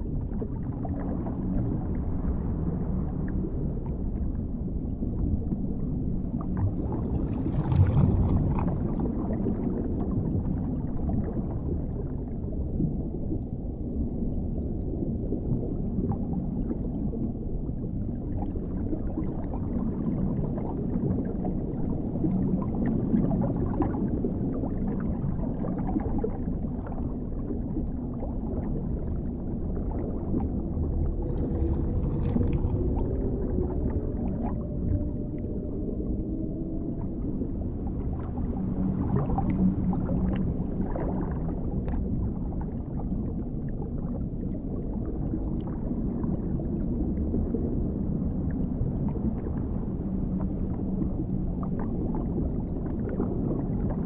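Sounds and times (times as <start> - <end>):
muffled underwater rumble: 0.0 - 54.0.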